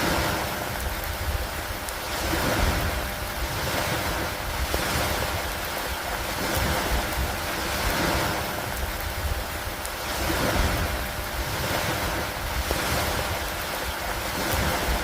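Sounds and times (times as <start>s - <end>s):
rain on water: 0.0s - 15.0s.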